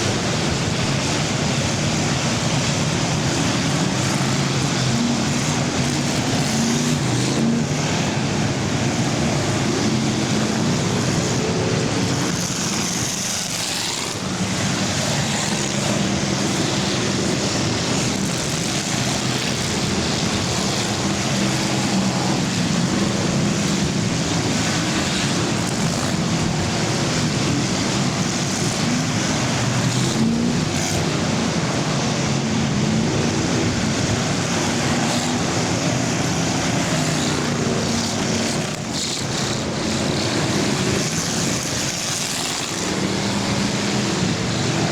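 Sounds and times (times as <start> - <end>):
racing car engines: 0.0 - 44.9.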